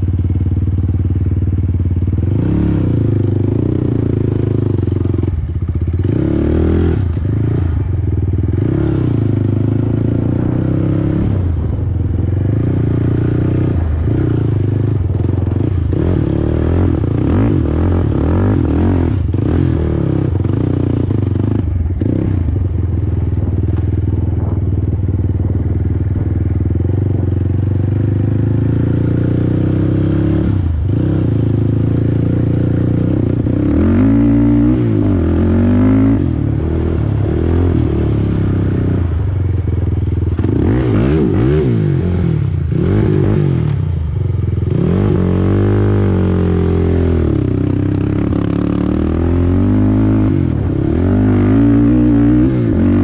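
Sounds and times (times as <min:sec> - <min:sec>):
quad engine revving: 0:02.1 - 0:05.4, 0:06.0 - 0:22.5, 0:26.6 - 0:39.3, 0:40.2 - 0:43.8, 0:44.5 - 0:53.0.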